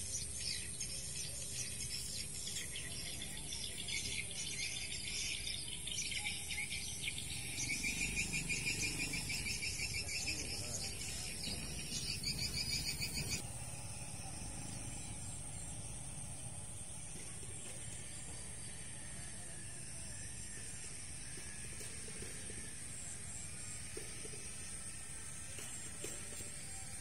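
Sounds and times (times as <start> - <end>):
high insect drone: 0.1 - 27.0.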